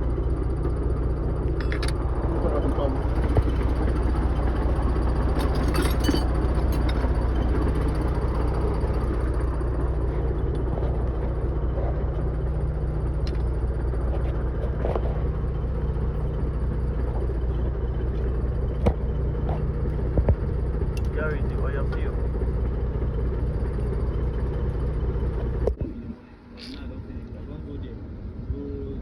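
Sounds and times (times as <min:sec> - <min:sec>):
low engine drone: 0:00.0 - 0:29.0.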